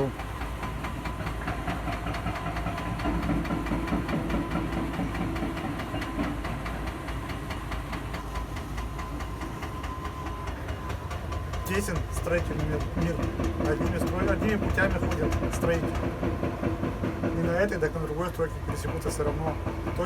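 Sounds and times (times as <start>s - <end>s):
machine deep rumble: 0.0s - 20.0s.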